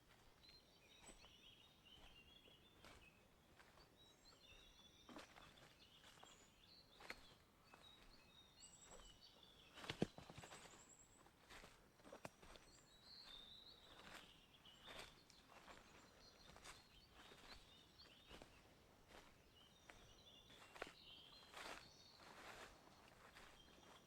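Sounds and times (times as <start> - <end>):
soft footsteps on forest path: 0.0 - 24.0
faint high bird chirps: 0.4 - 11.7, 12.4 - 18.5, 19.1 - 24.0.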